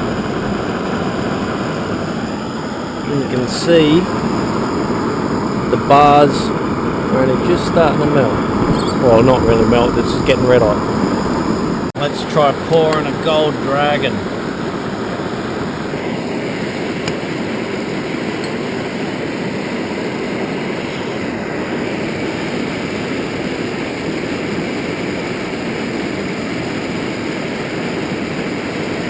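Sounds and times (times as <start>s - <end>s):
furnace roaring: 0.0s - 29.0s.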